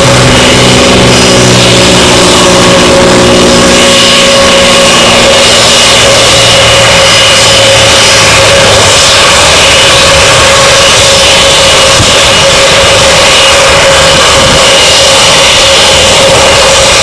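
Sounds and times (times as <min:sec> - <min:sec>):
aircraft high whine: 0:00.0 - 0:17.0
tug engine running: 0:00.0 - 0:17.0.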